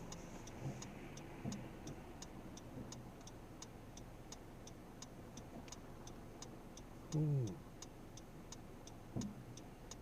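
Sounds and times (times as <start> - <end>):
car turn signal ticking: 0.0 - 10.0
faint engine and road hum: 0.0 - 10.0.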